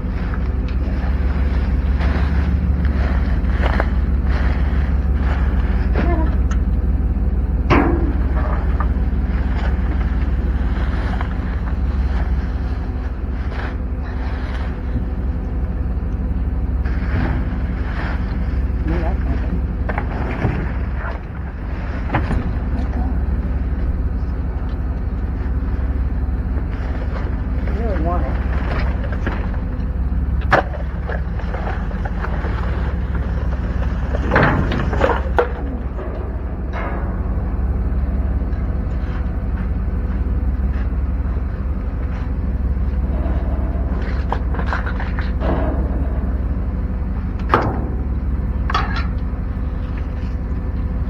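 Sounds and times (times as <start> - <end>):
faint steady hum: 0.0 - 51.0
vehicle engine and road noise: 0.0 - 51.0.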